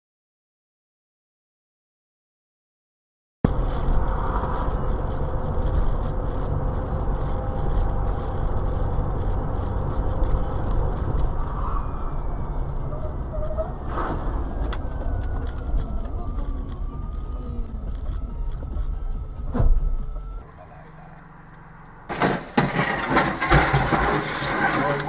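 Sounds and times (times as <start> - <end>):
car road and engine noise: 3.4 - 25.0.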